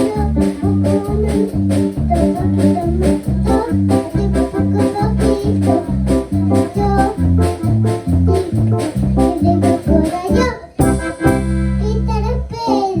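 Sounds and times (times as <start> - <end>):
upbeat gospel music: 0.0 - 13.0.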